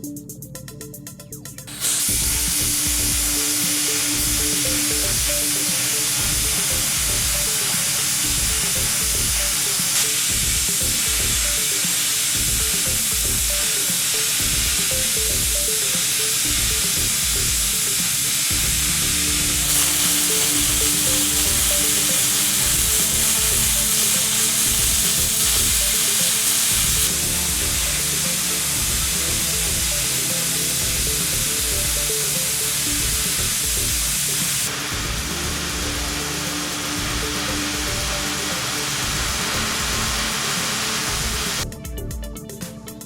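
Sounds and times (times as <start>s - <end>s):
welding arc crackling and sizzling: 1.7s - 41.7s.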